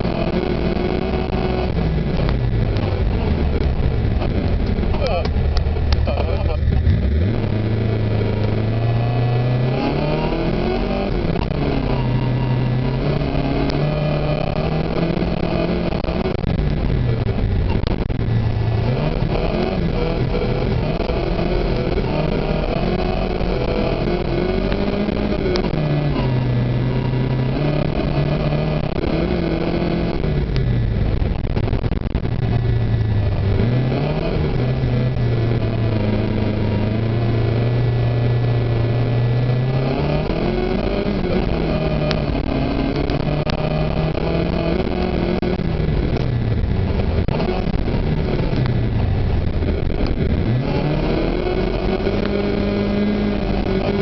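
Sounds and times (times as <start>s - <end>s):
car engine revving: 0.0s - 54.0s
road and tyre noise: 0.0s - 54.0s.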